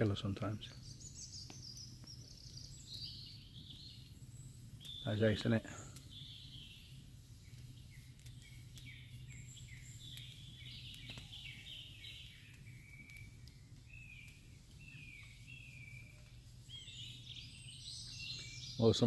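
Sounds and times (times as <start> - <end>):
birds chirping and whistling: 0.0 - 19.0.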